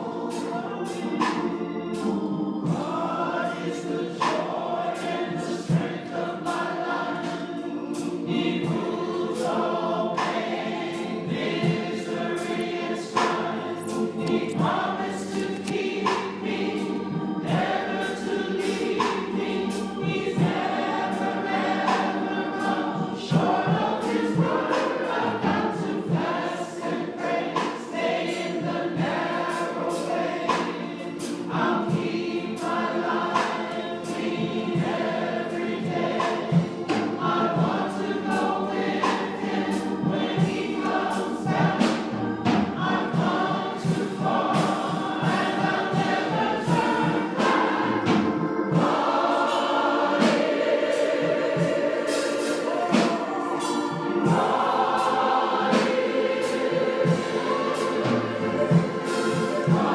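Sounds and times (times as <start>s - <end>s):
congregation singing gospel song: 0.0s - 59.9s.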